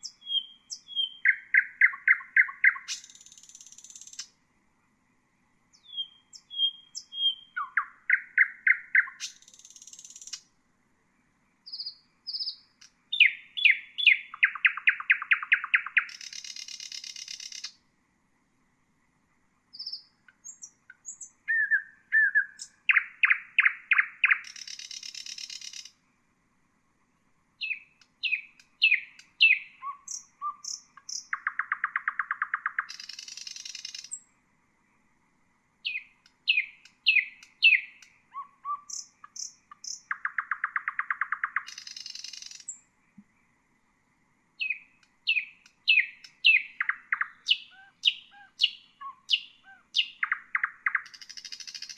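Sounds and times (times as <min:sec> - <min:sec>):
nightingale singing: 0:00.0 - 0:04.4, 0:05.7 - 0:10.6, 0:11.4 - 0:17.8, 0:19.7 - 0:26.0, 0:27.6 - 0:34.3, 0:35.8 - 0:43.3, 0:44.6 - 0:51.9.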